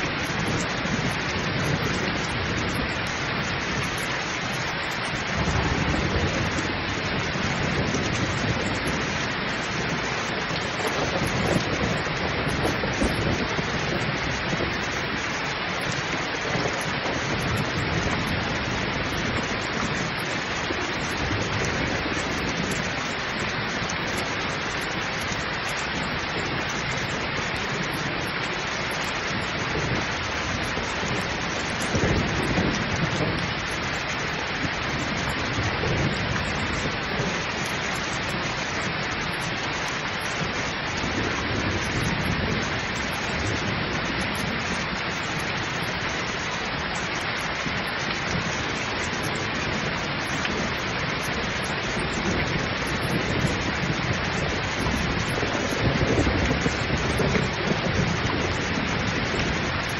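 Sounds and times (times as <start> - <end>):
heavy rain pouring: 0.0 - 59.9
low rolling thunder: 0.0 - 59.9.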